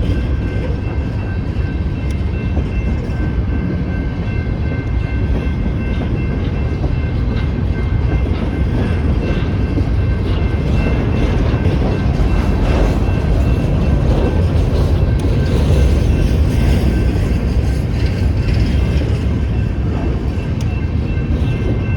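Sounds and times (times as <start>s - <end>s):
crossing bell tones: 0.0s - 21.9s
train cars rumbling past: 0.0s - 21.9s
train wheel clicks: 0.0s - 21.9s.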